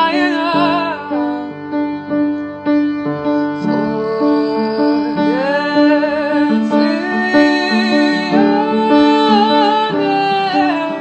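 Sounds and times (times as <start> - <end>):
woman singing with vibrato: 0.0 - 1.6, 3.6 - 11.0
piano chords: 0.0 - 11.0.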